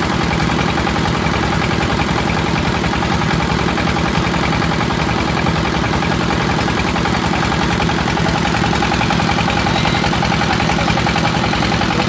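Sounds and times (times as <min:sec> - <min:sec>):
water pump engine running: 0:00.0 - 0:12.0.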